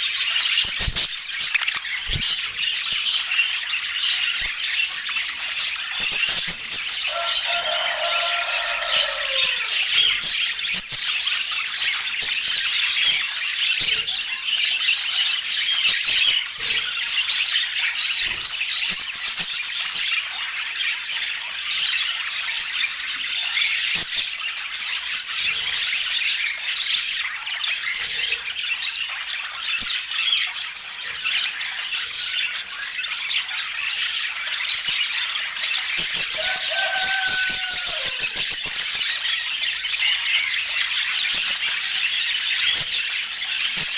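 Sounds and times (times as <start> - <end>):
budgerigars chattering: 0.0 - 43.9.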